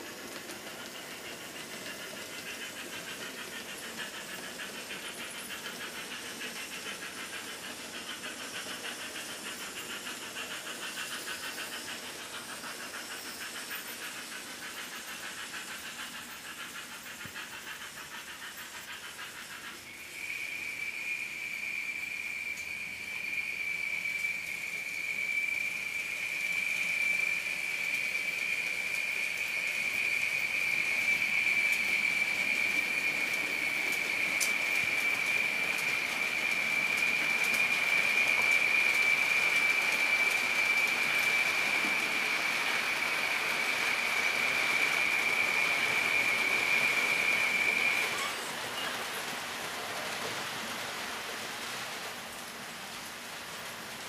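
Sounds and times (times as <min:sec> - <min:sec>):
model locomotive motor whine: 0:00.0 - 0:54.0
model train hiss and rattle: 0:00.0 - 0:54.0.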